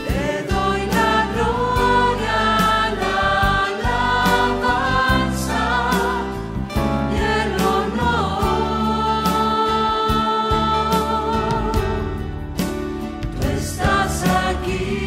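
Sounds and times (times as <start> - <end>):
voices singing held notes: 0.0 - 12.2, 13.4 - 15.0
band with bass and drums: 0.0 - 15.0.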